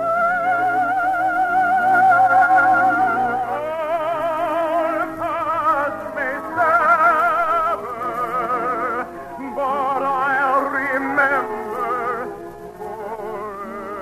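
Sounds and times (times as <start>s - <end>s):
operatic singing: 0.0s - 14.0s
orchestral accompaniment: 0.0s - 14.0s.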